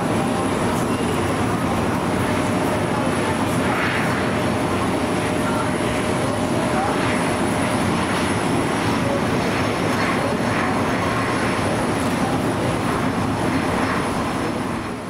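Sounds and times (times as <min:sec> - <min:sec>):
jet engines rushing with high whine: 0:00.0 - 0:15.0.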